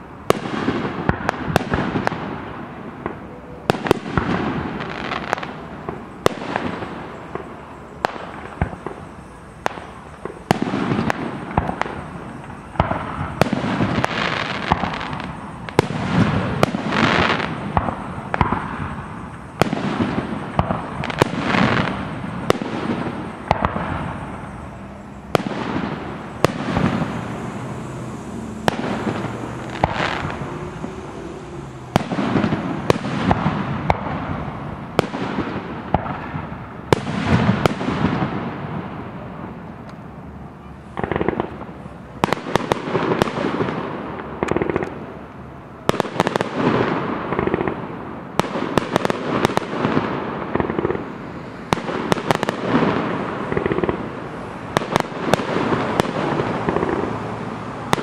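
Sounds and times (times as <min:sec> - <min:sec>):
fireworks bangs with echo: 0:00.0 - 0:58.0.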